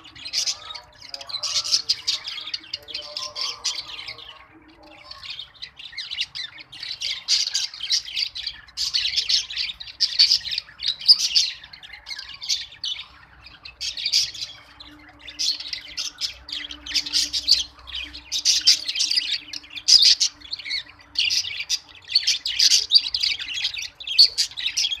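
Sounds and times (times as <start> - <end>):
parrots chirping and squawking: 0.0 - 25.0.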